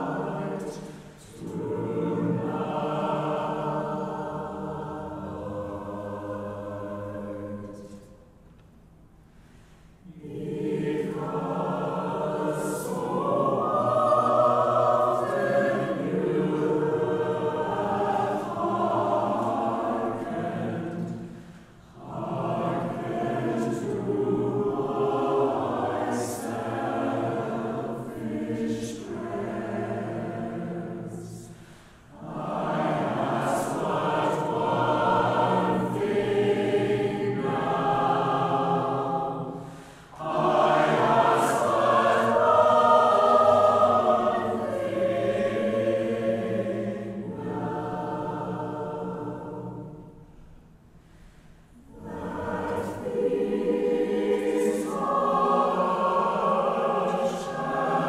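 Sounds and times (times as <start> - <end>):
mixed choir singing in harmony: 0.0 - 8.5, 9.9 - 58.0.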